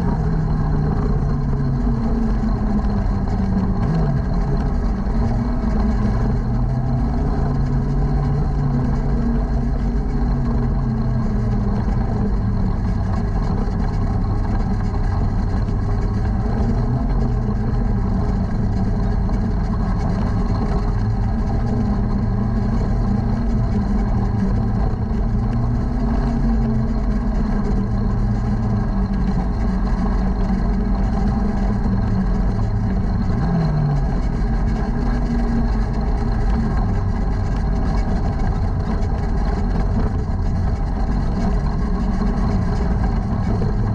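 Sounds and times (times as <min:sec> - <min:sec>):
race car engine running: 0:00.0 - 0:43.9.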